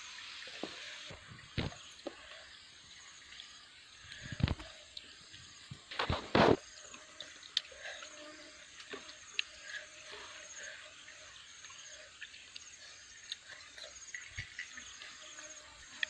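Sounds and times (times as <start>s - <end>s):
insects chirping trills: 0.0s - 16.0s.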